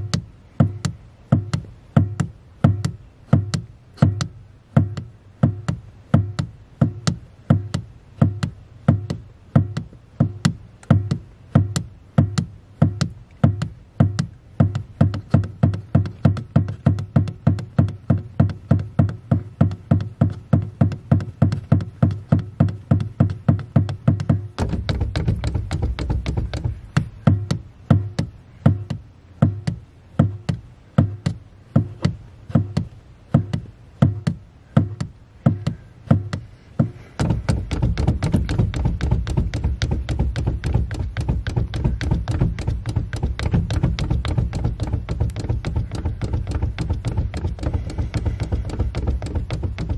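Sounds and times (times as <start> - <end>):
accelerator pedal tap: 0.0 - 49.9
car engine revving in blips: 0.0 - 49.9.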